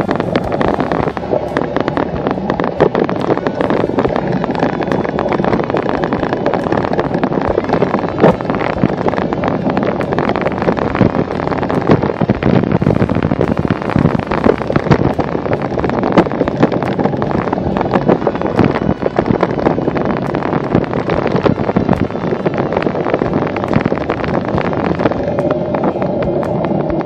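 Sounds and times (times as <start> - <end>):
bike tyres rumbling on grass: 0.0 - 27.0
wind buffeting microphone: 0.0 - 27.0.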